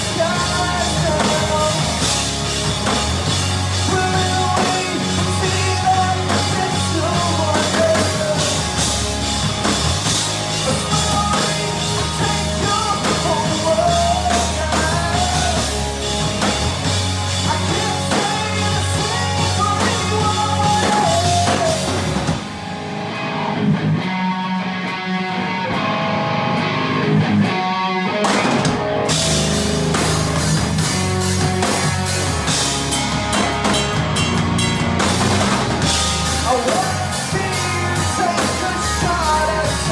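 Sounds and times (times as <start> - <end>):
drum kit: 0.0 - 24.6, 27.6 - 39.9
electric guitar: 0.0 - 39.9
rock band playing: 0.0 - 39.9.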